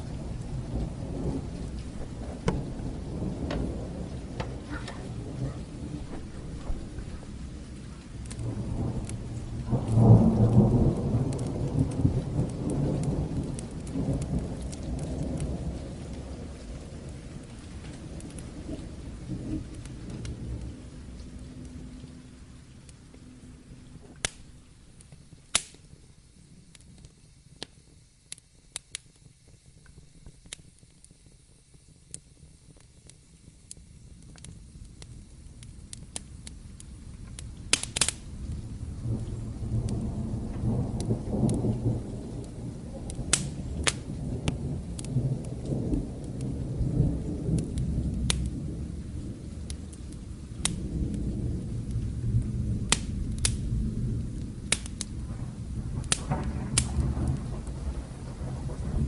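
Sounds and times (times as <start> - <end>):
thunder rumbling: 0.0 - 27.2, 32.4 - 59.0
fire crackling: 0.0 - 59.0
steady rain: 0.0 - 59.0.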